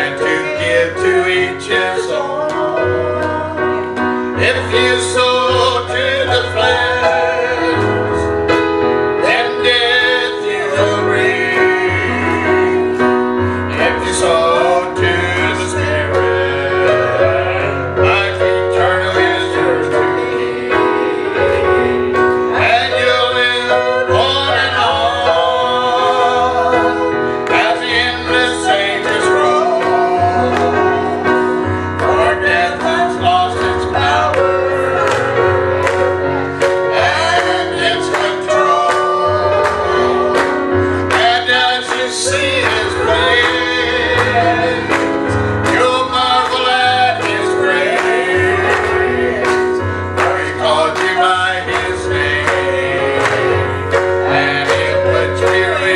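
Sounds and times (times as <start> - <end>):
gospel singing: 0.0 - 55.9
instrumental accompaniment with bass: 0.0 - 55.9.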